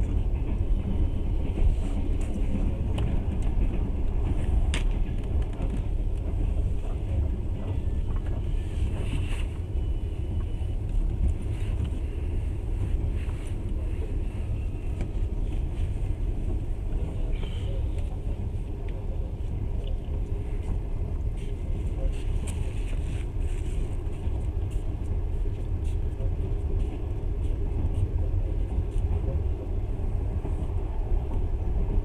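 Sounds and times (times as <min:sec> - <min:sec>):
train rumbling: 0:00.0 - 0:32.0.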